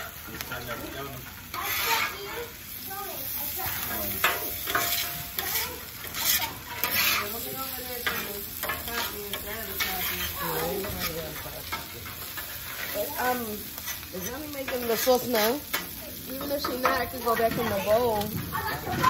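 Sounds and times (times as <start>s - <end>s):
food sizzling on griddle: 0.0s - 19.0s
spatula scraping griddle: 0.0s - 19.0s.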